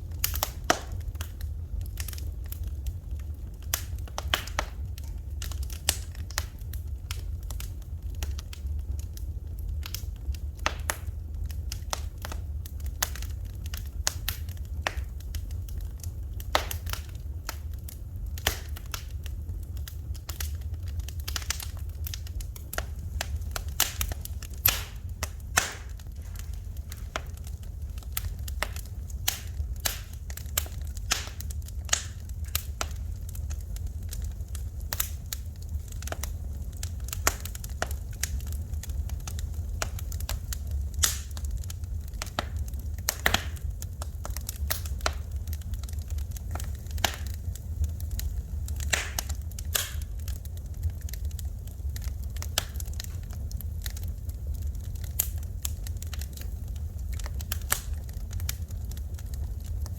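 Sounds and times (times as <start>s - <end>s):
fire low rumble: 0.0s - 59.9s
fire popping and snapping: 0.0s - 59.9s.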